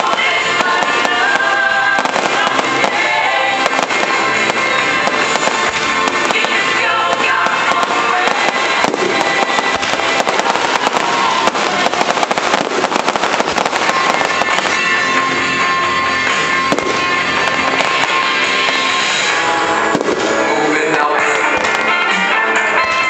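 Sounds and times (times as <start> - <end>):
fireworks bursting and crackling: 0.0 - 23.0
music playing: 0.0 - 23.0.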